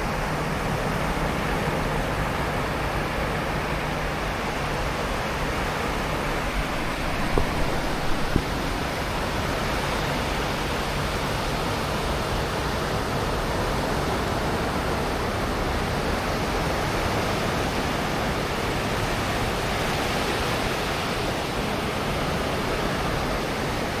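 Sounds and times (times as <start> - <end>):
sea surf on beach: 0.0 - 24.0.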